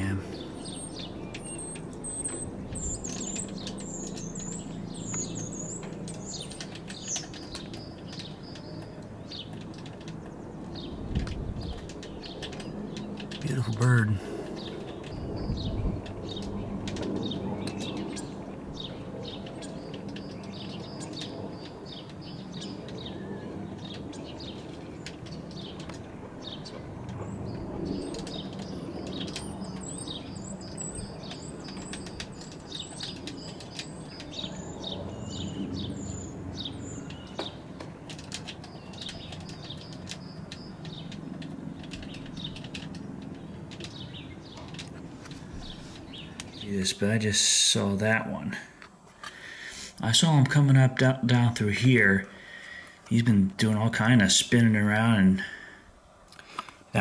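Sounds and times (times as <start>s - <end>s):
distant helicopter droning: 0.0s - 57.0s
small birds chirping: 0.0s - 57.0s.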